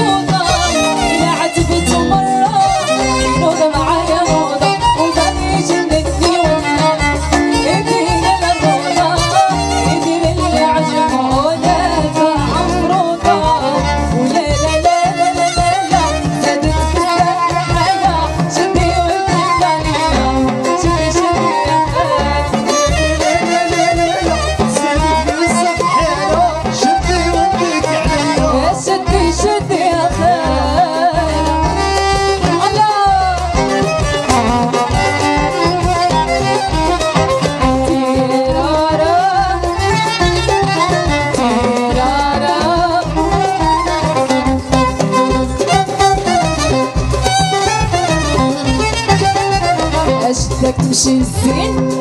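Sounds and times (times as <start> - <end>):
electric guitar: 0.0 - 52.0
steady drum beat: 0.0 - 52.0
violin melody: 0.0 - 52.0.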